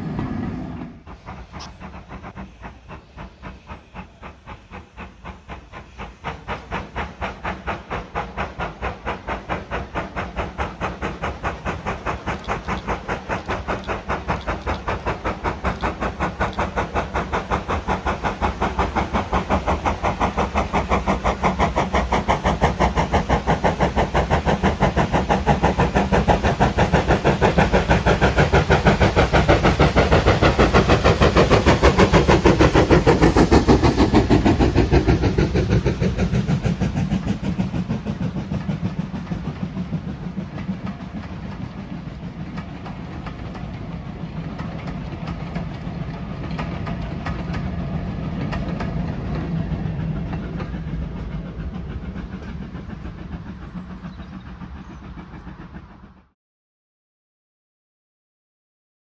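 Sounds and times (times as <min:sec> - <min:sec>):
steam hissing: 0:00.0 - 0:56.3
steam locomotive exhaust beats: 0:00.0 - 0:56.4.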